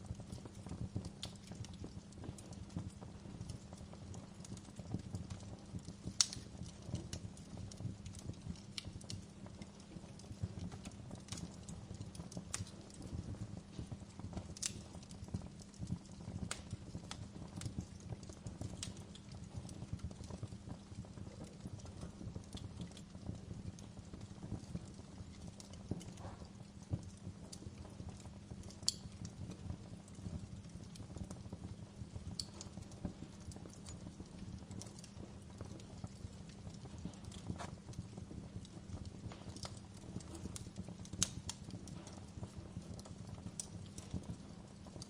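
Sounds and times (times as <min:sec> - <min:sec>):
low rumble of burning logs: 0:00.0 - 0:45.0
wood fire crackling: 0:00.0 - 0:45.0.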